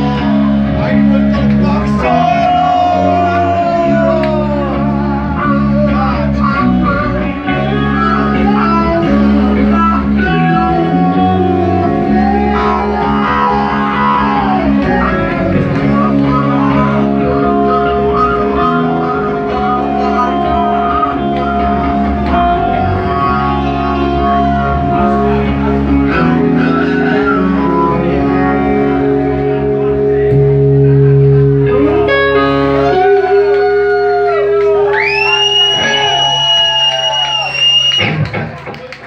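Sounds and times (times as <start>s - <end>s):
lead guitar bending notes: 0.0s - 35.0s
rock band jamming: 0.0s - 39.0s.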